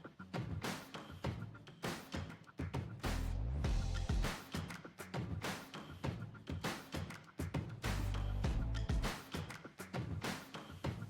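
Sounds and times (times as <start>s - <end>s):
music with percussive beat: 0.0s - 11.0s.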